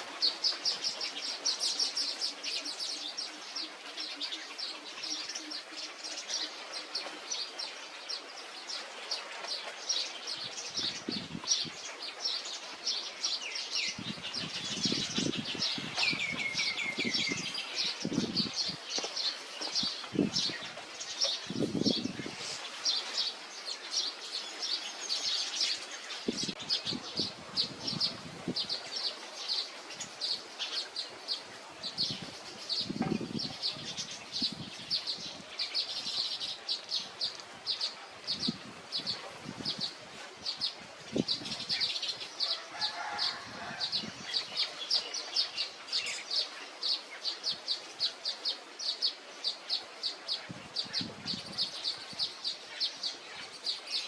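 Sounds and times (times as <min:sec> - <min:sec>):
weaver birds chirping: 0:00.0 - 0:54.0.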